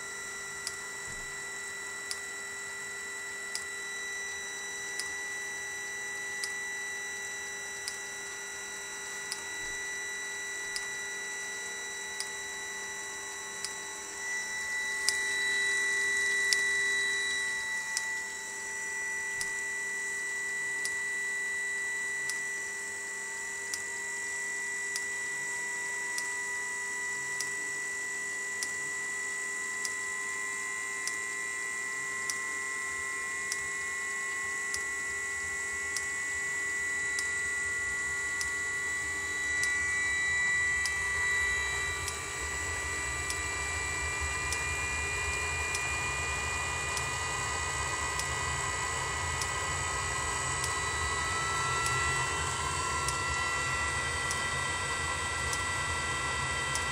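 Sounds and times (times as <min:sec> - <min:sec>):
heater blower whining: 0:00.0 - 0:56.9.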